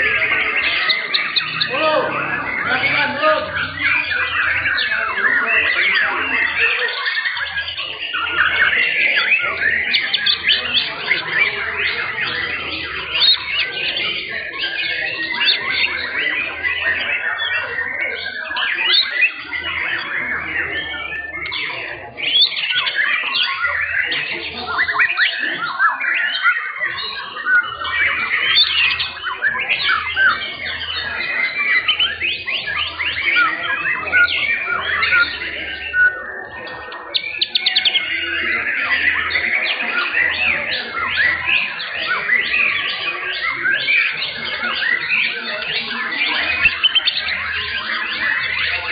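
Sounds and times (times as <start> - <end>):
birds singing fast chirps and trills: 0.0 - 48.9.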